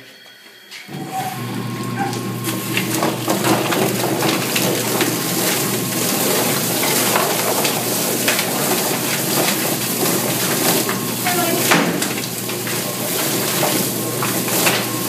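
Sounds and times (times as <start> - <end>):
motor humming: 0.9 - 15.0
chicken slapping and clicking: 2.0 - 15.0.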